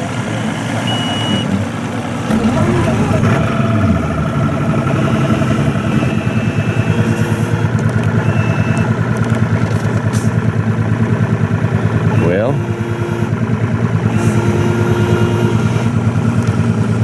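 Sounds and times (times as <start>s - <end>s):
outboard motor running: 0.9s - 17.0s.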